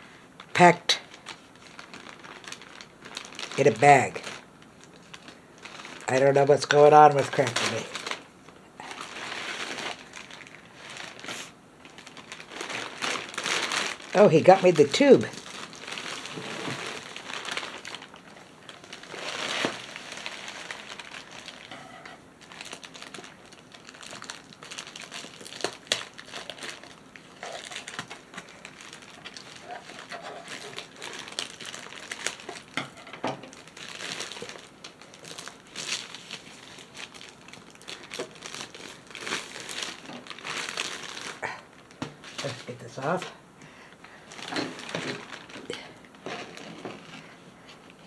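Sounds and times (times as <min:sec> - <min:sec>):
plastic bag crinkling: 0:00.4 - 0:48.0.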